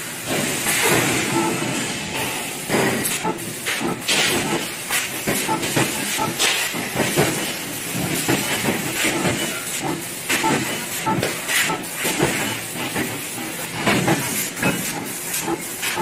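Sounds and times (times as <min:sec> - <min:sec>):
laser cutting machine hissing: 0:00.0 - 0:16.0.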